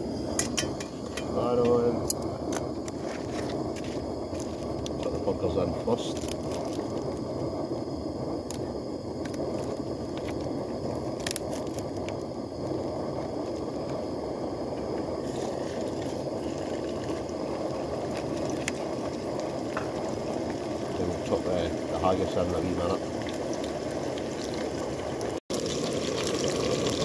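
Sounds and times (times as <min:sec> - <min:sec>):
gas burner roaring: 0:00.0 - 0:27.0.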